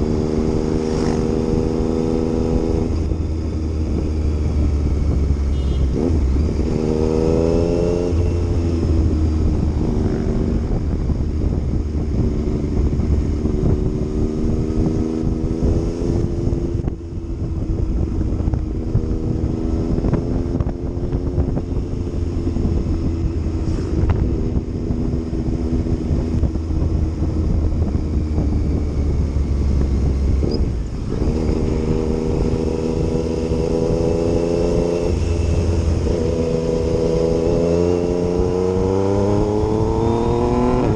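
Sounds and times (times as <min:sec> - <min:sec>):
wind rumble on microphone: 0:00.0 - 0:40.9.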